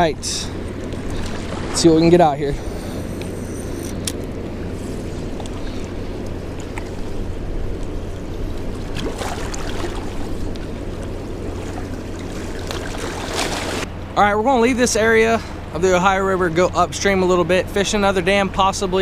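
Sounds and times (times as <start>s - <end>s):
flowing river water: 0.0s - 19.0s
low steady hum: 0.0s - 19.0s.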